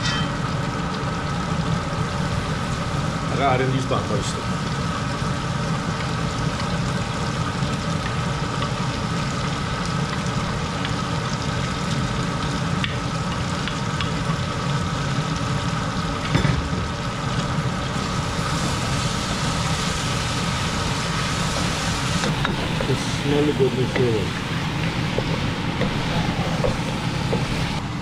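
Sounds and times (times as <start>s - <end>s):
meat sizzling in oil: 0.0s - 28.0s.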